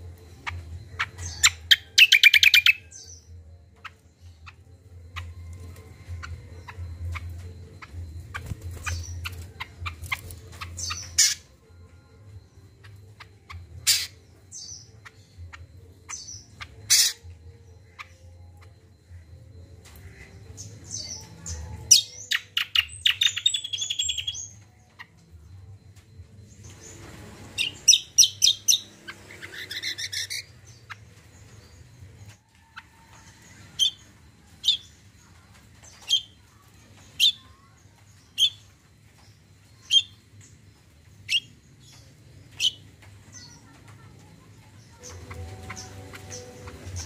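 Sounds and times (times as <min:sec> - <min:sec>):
songbird chirping: 0:00.0 - 0:47.0.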